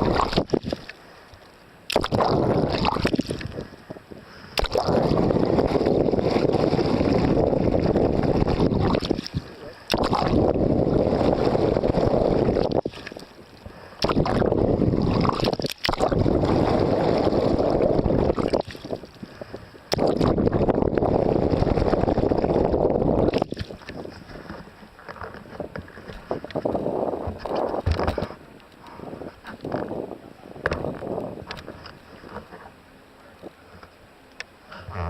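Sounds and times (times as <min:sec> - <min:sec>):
wind buffeting microphone: 0:02.0 - 0:12.9, 0:14.0 - 0:32.5.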